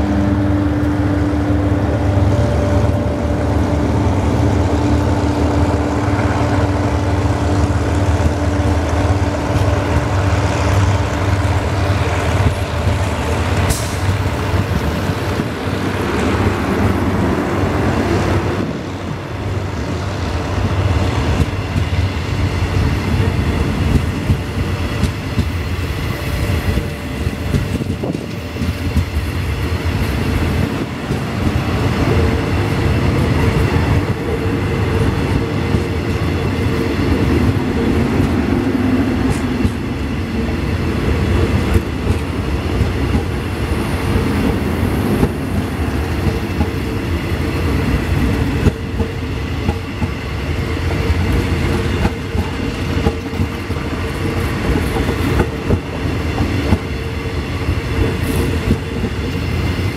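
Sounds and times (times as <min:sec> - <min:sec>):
train coaches rumbling on rails: 0:00.0 - 0:59.9.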